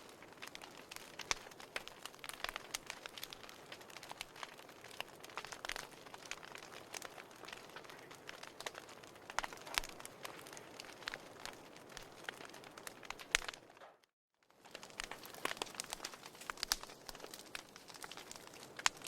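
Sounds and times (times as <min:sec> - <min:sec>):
firewood crackling and popping: 0:00.0 - 0:19.0.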